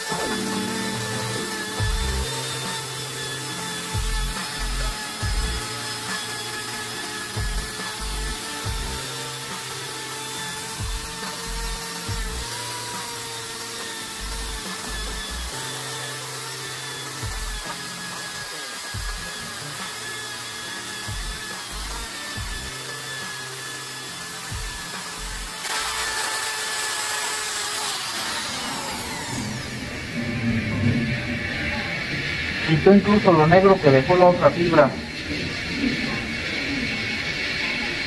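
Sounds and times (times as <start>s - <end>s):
background music: 0.0s - 26.8s, 28.0s - 35.1s
drill motor whine: 0.0s - 38.0s
polishing disc grinding tile: 0.0s - 38.0s.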